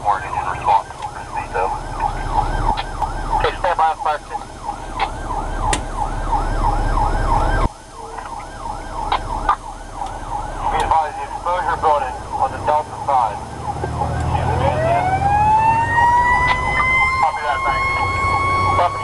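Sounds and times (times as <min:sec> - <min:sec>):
fire engine siren: 0:00.0 - 0:19.0
truck engine and road rumble: 0:00.0 - 0:19.0.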